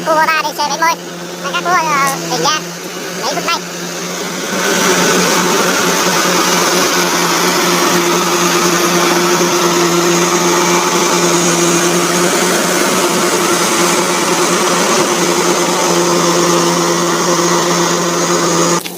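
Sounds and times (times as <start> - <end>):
combine harvester droning: 0.0 - 18.9.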